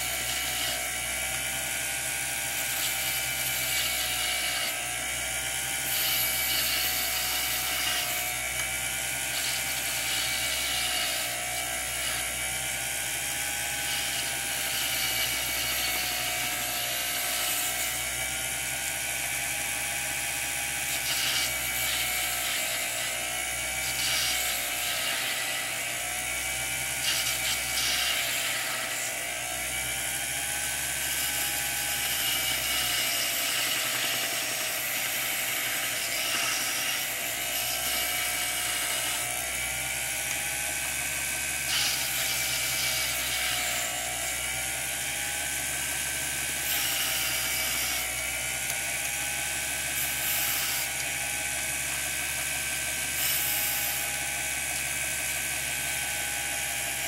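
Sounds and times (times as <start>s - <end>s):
lathe whining: 0.0s - 57.0s.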